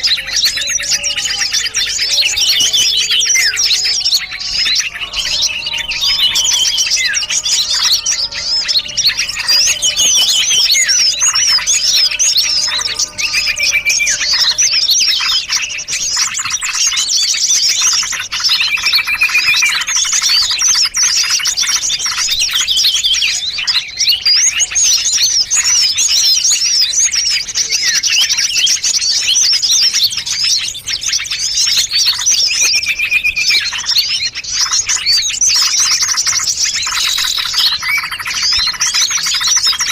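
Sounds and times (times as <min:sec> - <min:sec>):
lower whistled bird notes: 0:00.0 - 0:39.9
songbirds chirping and trilling: 0:00.0 - 0:39.9.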